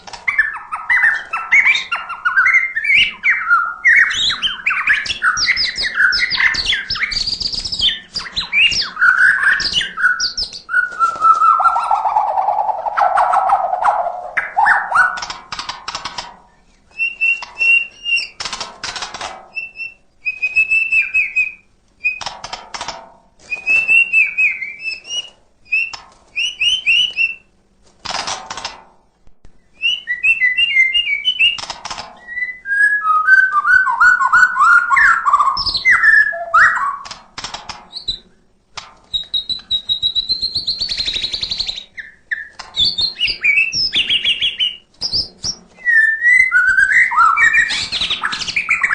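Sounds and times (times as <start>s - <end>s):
songbird singing whistled phrases: 0.3s - 15.3s, 16.9s - 18.4s, 19.5s - 22.3s, 23.4s - 27.5s, 29.6s - 37.1s, 39.1s - 48.9s.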